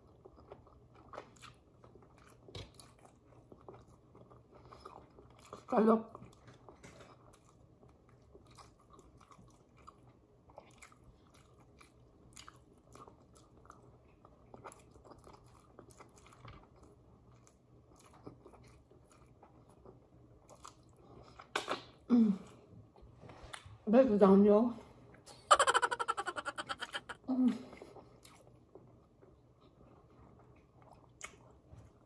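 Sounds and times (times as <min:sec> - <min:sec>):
faint close-up chewing: 0:00.0 - 0:23.8, 0:26.4 - 0:32.0.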